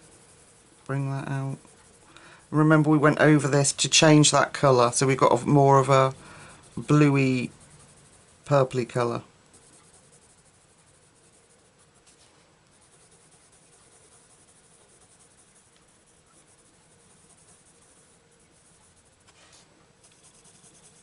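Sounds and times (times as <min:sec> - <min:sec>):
pencil scratching on paper: 0:00.0 - 0:21.0.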